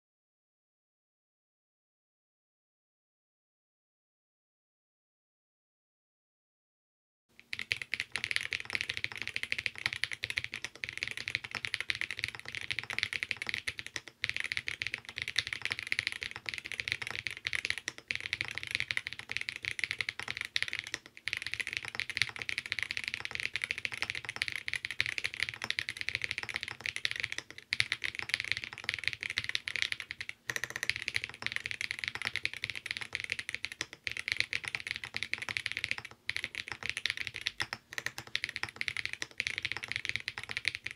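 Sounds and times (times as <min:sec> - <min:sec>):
fast mechanical keyboard typing: 0:07.4 - 0:40.9.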